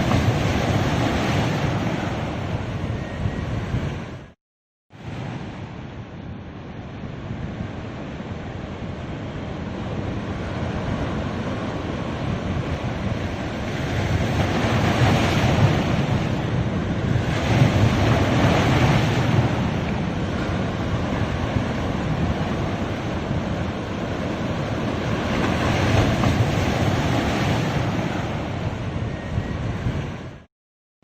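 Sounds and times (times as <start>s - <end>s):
ocean surf washing onto beach: 0.0s - 3.2s, 5.0s - 30.5s
large waves breaking: 0.0s - 4.4s, 5.0s - 30.5s.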